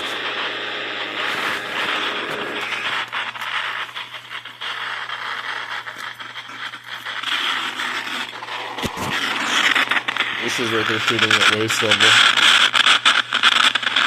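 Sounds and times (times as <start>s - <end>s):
faint steady hum: 0.0s - 14.0s
radio static hiss with crackles: 0.0s - 14.0s.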